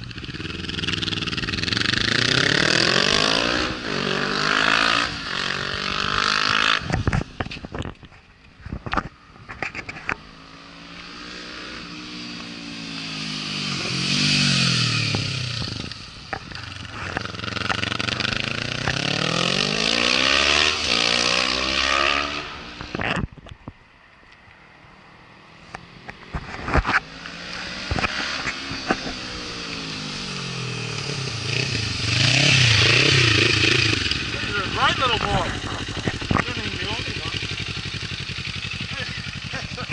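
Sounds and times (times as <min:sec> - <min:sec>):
motorcycle engine accelerating: 0:00.0 - 0:08.1, 0:09.1 - 0:23.2, 0:25.8 - 0:39.9.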